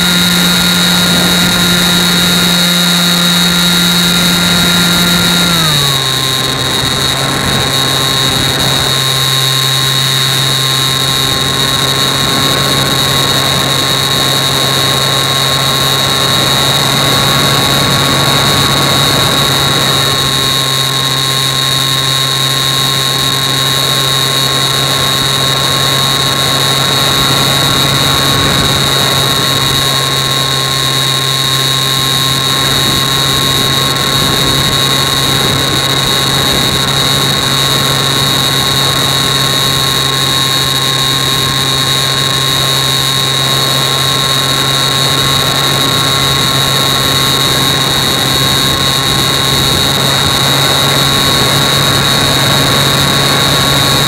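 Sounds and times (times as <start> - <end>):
electric motor and propeller whine: 0.0 - 54.0.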